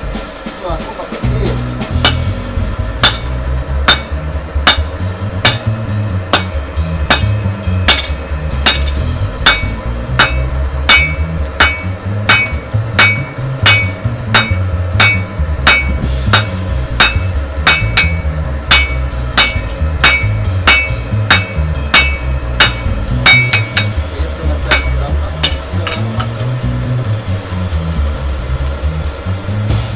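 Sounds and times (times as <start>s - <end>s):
hammer striking steel on anvil: 1.2s - 27.8s.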